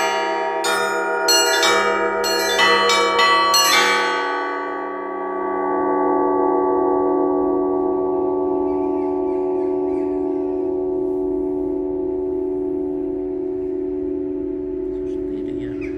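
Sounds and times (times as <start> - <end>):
bells humming with wavering beat: 0.0 - 15.9
church bells striking: 0.0 - 15.9.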